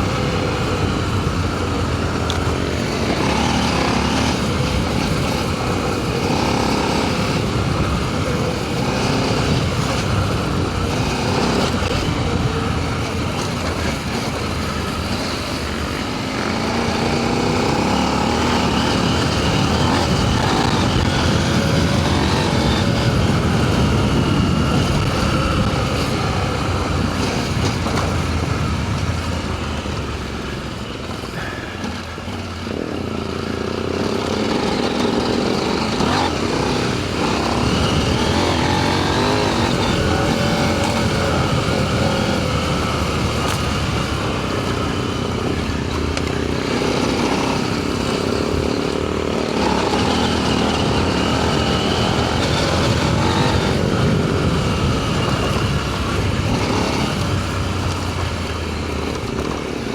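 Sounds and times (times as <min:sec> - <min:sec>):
motorcycle engine revving: 0:00.0 - 0:59.9
wind and riding noise: 0:00.0 - 0:59.9.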